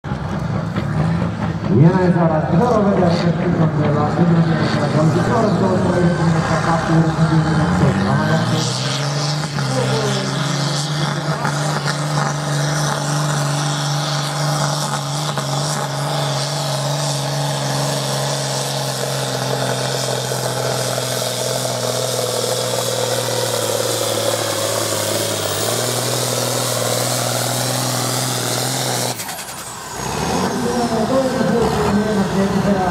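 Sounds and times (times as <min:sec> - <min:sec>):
diesel tractor engine under full load: 0:00.0 - 0:32.9.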